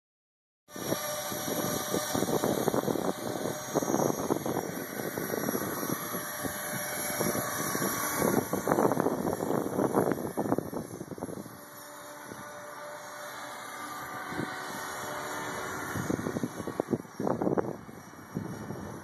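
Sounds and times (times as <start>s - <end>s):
model helicopter motor and rotor: 0.7s - 19.0s
wind buffeting microphone: 0.7s - 19.0s.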